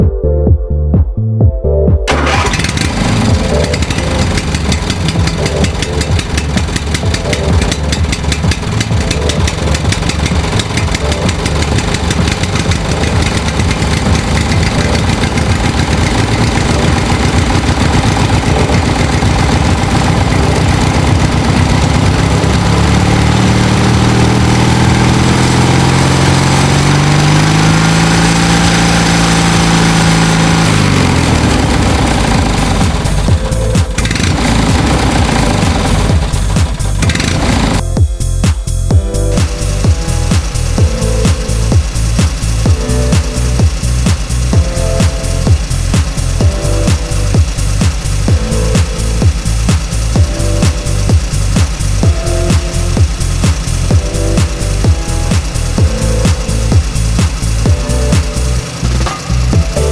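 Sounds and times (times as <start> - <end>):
engine running: 2.1 - 59.9.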